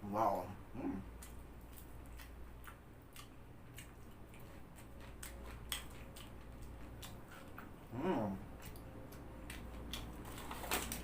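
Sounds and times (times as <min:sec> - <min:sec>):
chewing crunches and clicks: 0:01.1 - 0:11.0.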